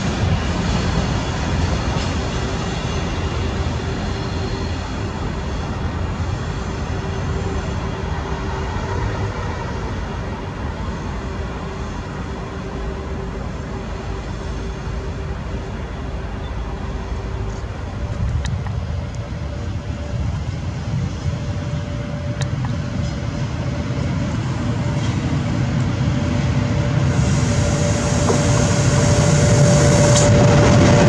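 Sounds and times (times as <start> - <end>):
steady humming tone: 0.0 - 31.0
train wheels rumbling on track: 0.0 - 31.0.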